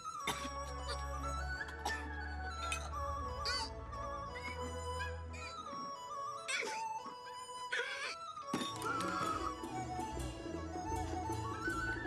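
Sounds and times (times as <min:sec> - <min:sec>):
film score music: 0:00.0 - 0:12.0.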